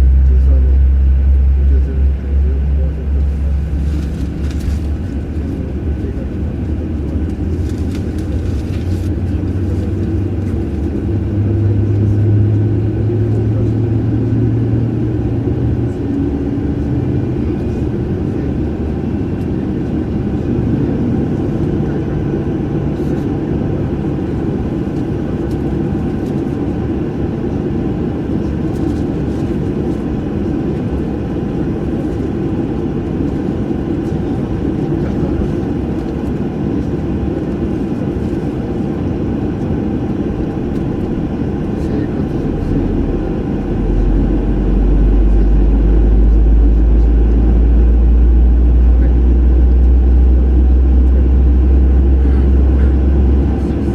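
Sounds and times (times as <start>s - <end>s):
jet engines rumbling: 0.0s - 53.9s.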